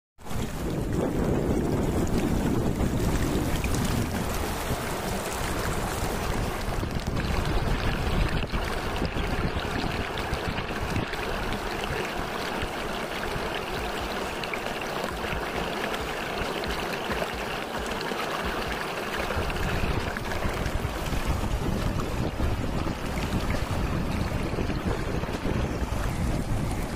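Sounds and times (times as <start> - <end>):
river water rushing: 0.2 - 26.9.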